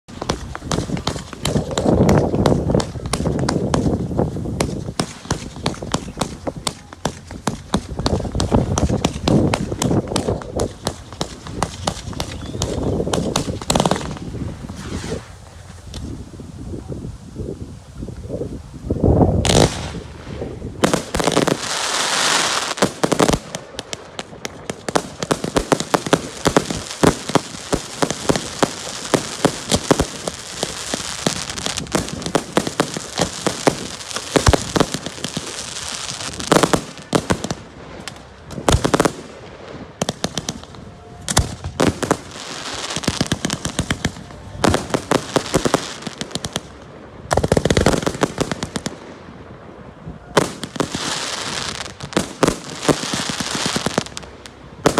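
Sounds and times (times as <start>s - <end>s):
fireworks booming and crackling: 0.0s - 16.2s, 19.1s - 54.9s.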